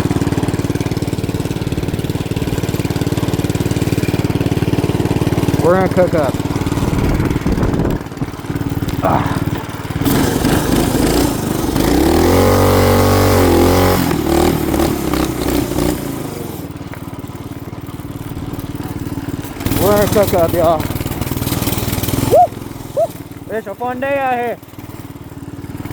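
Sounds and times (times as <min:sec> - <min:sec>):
small engine running and revving: 0:00.0 - 0:25.9.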